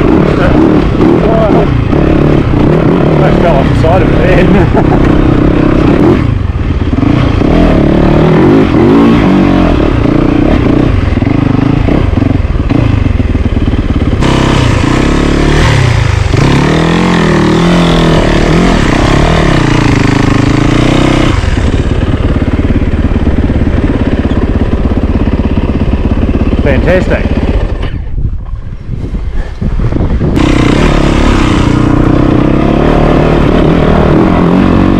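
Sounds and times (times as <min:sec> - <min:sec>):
dirt bike engine revving: 0:00.0 - 0:28.1, 0:29.9 - 0:34.9.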